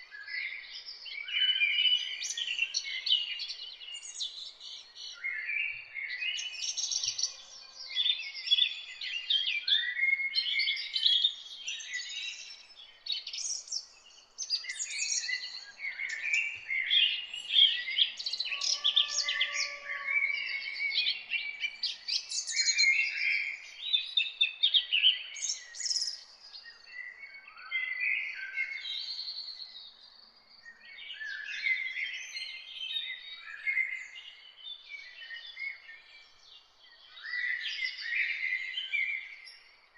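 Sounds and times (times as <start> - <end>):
birds chirping and singing: 0.1 - 39.8.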